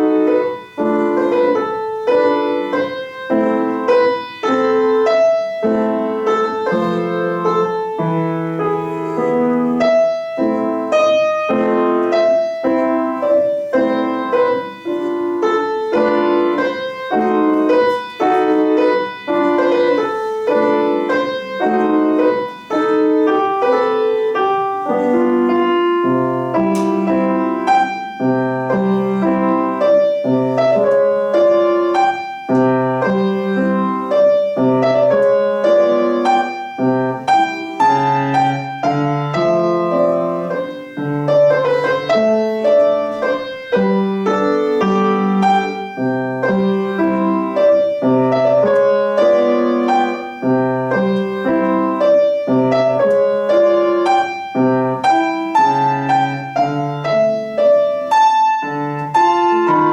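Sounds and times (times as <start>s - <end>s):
solo keyboard classical melody: 0.0s - 59.9s.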